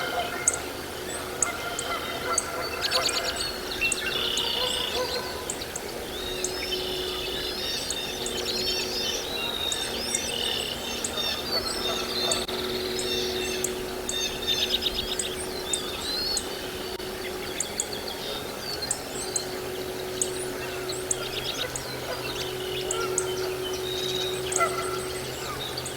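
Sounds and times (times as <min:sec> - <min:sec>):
birds chirping and trilling: 0:00.0 - 0:25.9
faint low hum: 0:00.0 - 0:25.9.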